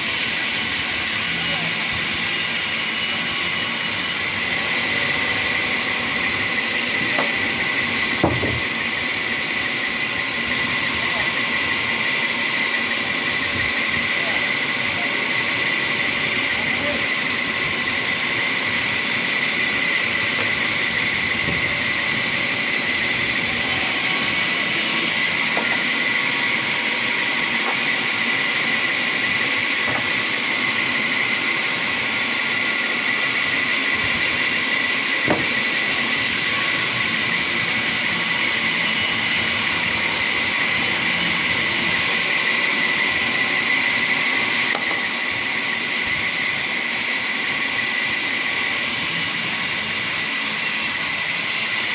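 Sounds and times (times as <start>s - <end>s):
sawmill saw whining: 0.0s - 51.9s.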